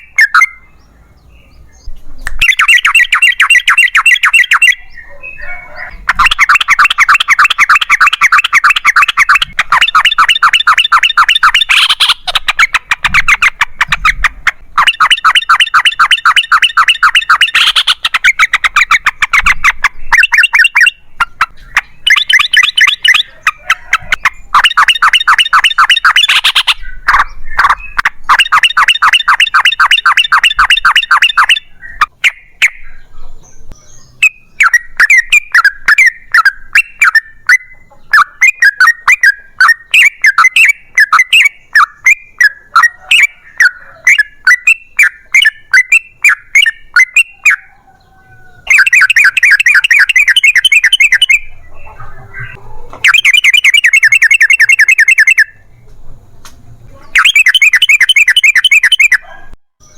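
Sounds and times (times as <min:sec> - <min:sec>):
bird singing rolling phrases: 0:00.0 - 0:59.9.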